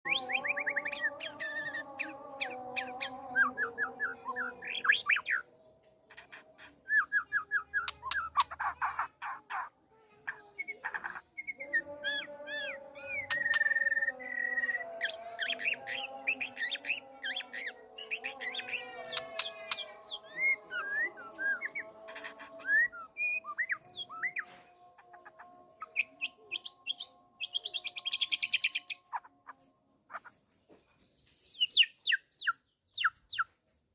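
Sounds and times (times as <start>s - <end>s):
bird singing trills and whistles: 0.1s - 9.7s, 10.3s - 33.8s.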